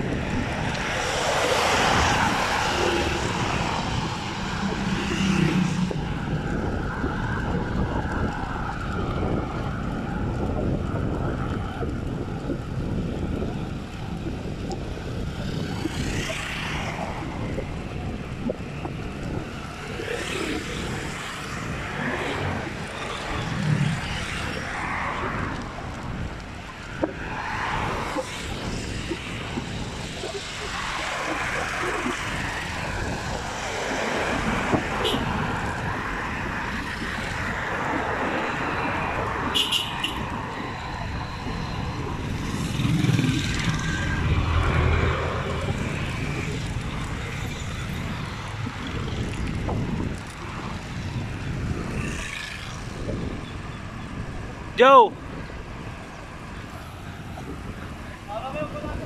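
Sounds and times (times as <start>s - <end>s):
bicycle tyre noise on road: 0.0s - 59.0s
passing traffic: 0.0s - 59.0s
wind on microphone: 0.0s - 59.0s.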